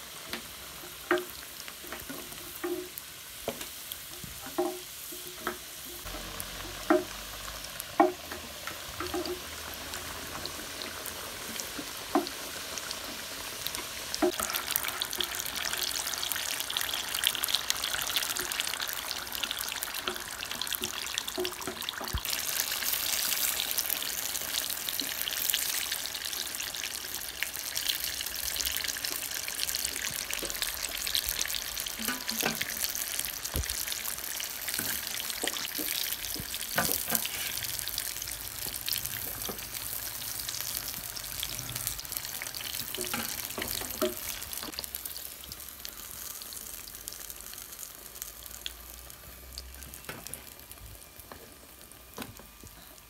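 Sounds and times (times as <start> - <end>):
food deep-frying in oil: 0.0 - 53.0.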